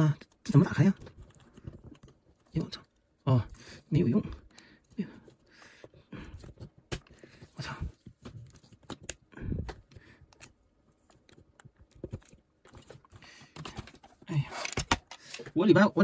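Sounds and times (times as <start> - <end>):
scraping and handling noise: 0.3 - 3.2, 3.9 - 15.8.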